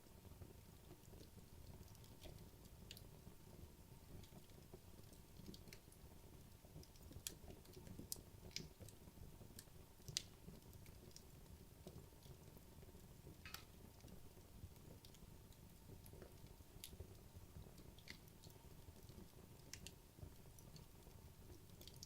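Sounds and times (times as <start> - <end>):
soft low rumble of fire: 0.0 - 22.0
wood crackles and pops: 0.1 - 22.0.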